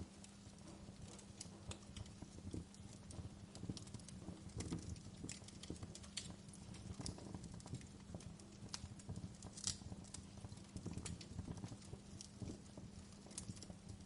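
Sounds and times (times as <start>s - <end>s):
faint steady hum: 0.0s - 14.0s
fire popping and snapping: 0.0s - 14.0s
fire rumbling: 0.0s - 14.0s.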